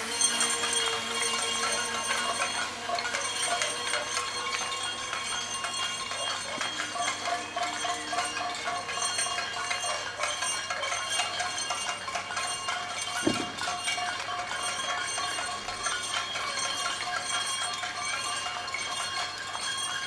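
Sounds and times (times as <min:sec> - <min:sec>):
ringing bells or struck pans: 0:00.0 - 0:20.0.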